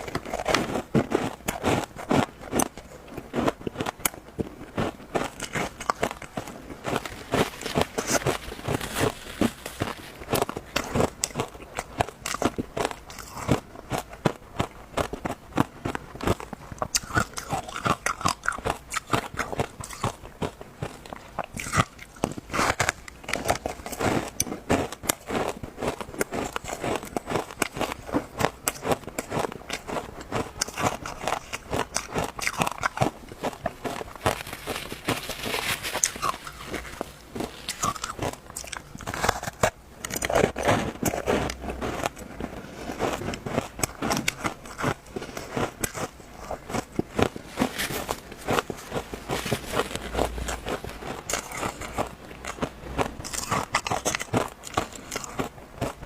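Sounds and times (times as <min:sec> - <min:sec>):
crunching shaved ice: 0:00.0 - 0:56.0.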